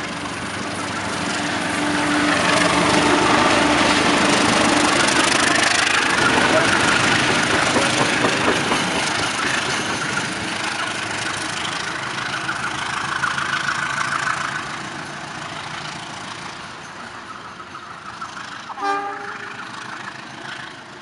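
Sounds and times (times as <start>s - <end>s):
diesel engines running: 0.0s - 21.0s
train wheels rolling on rails: 0.0s - 21.0s.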